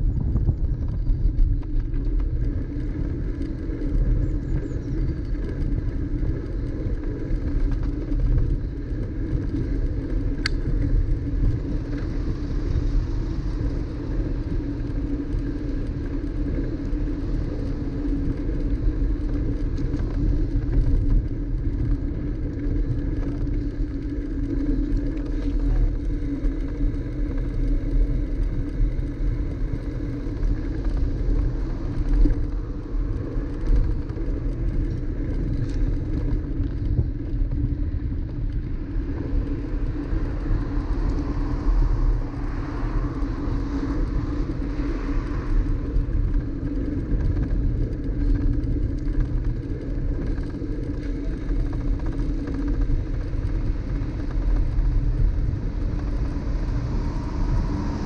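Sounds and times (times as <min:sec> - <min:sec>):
road and wind rumble: 0:00.0 - 0:58.0.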